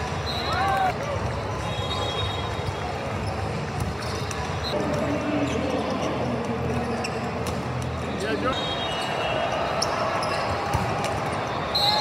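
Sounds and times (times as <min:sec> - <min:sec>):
din of crowded hall: 0:00.0 - 0:12.0.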